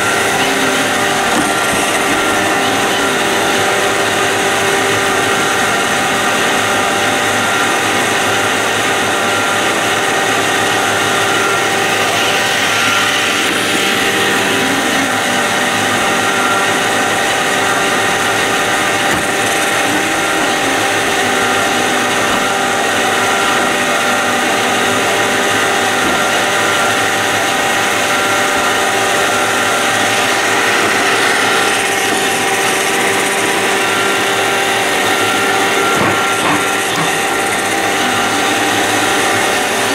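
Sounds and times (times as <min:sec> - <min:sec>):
robot vacuum whining: 0:00.0 - 0:39.9.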